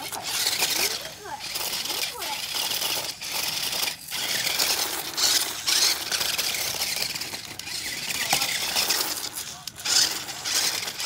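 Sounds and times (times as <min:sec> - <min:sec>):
toy car electric motors whirring: 0:00.0 - 0:11.0
tyres grinding over gravel: 0:00.0 - 0:11.0.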